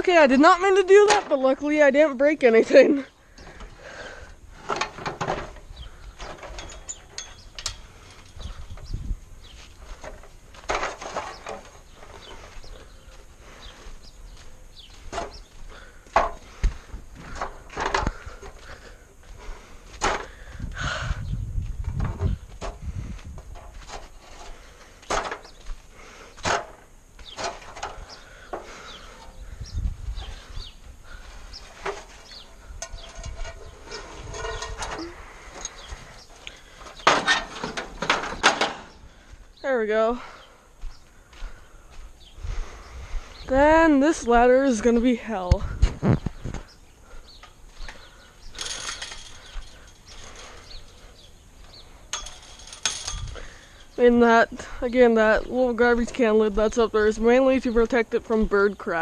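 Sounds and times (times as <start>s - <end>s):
small birds chirping: 0.0s - 23.5s, 24.1s - 59.0s.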